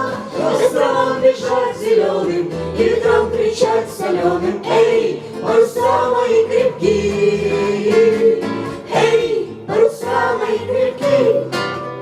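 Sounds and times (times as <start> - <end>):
voices singing: 0.0 - 11.8
guitar accompaniment: 0.0 - 12.0.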